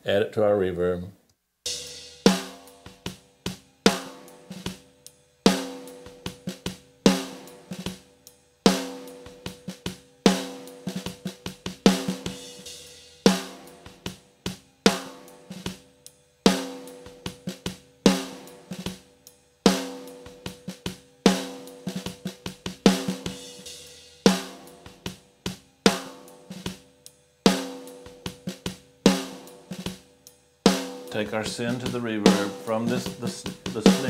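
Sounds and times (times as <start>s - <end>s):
hi-hat hits: 1.7s - 34.0s.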